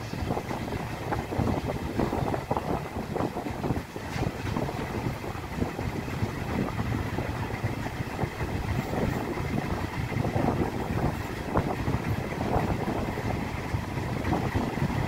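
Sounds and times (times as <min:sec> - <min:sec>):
train clattering and knocks: 0:00.0 - 0:15.0
train wheels rumbling on rails: 0:00.0 - 0:15.0.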